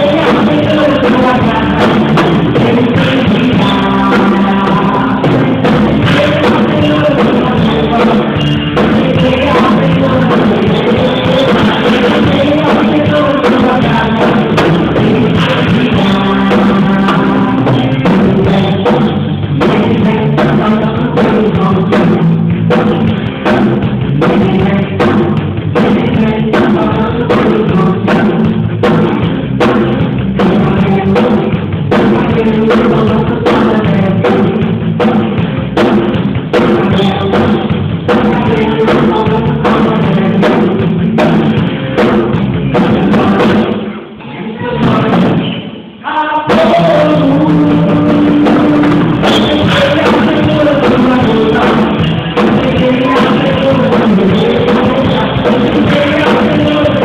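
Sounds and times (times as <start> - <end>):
person singing: 0.0 - 23.1, 24.1 - 29.2, 30.4 - 34.8, 36.6 - 57.0
drum kit rock beat: 0.0 - 57.0
worship band music: 0.0 - 57.0.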